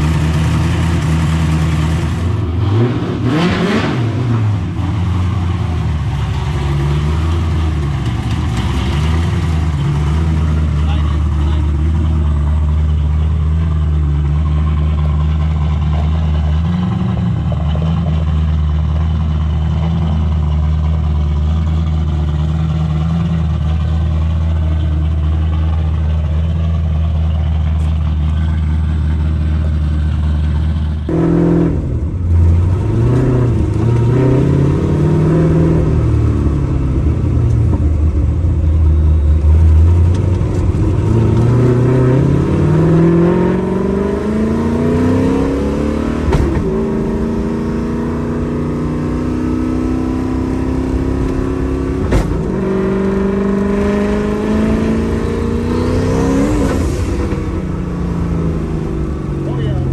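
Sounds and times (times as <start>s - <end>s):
car engine accelerating: 0.0s - 59.9s
car engine idling: 4.1s - 59.9s.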